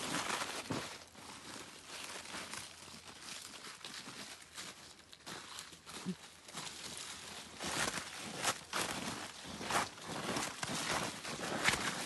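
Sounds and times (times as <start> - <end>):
footsteps crunching on snow and leaves: 0.0 - 12.0.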